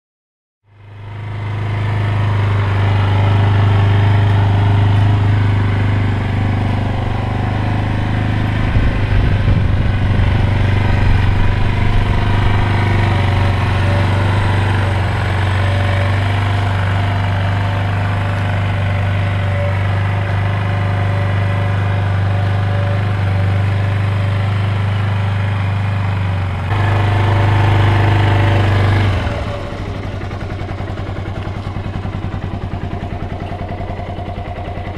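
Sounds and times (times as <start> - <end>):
motorcycle engine idling: 0.7 - 34.9.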